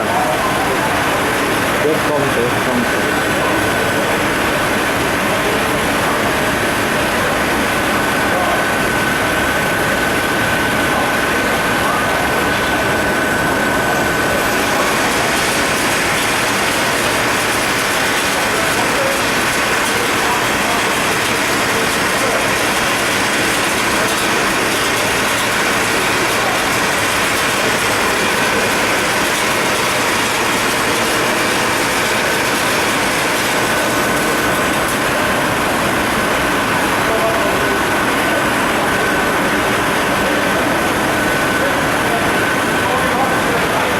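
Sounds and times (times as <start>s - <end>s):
machine clattering with whine: 0.0s - 43.9s.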